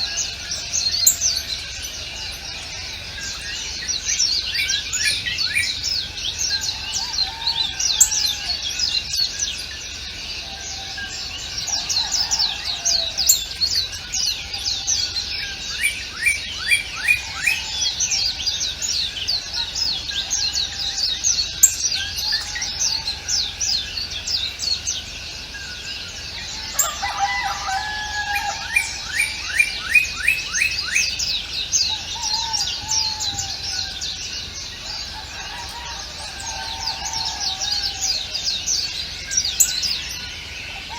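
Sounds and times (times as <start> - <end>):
lower warbling bird call: 0.0 - 40.9
songbirds chirping: 0.0 - 40.9.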